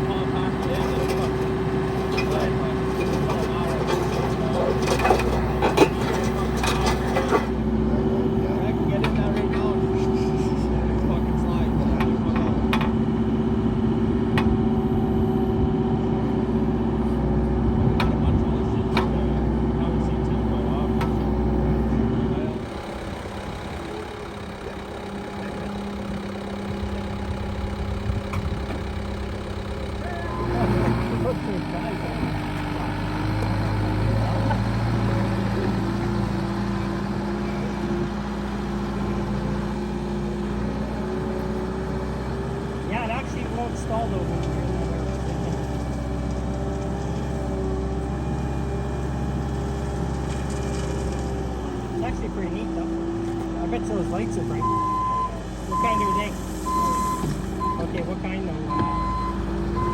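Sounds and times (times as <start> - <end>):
backhoe engine idling: 0.0 - 59.9.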